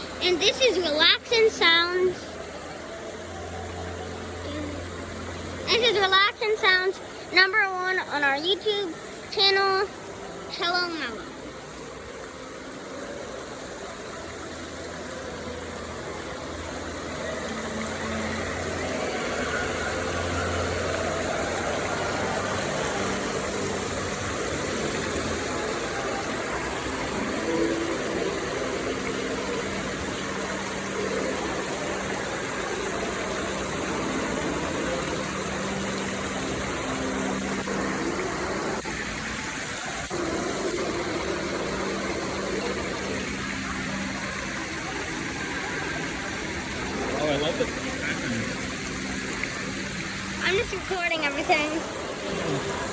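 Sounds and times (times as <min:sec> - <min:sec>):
constant noise haze: 0:00.0 - 0:52.9.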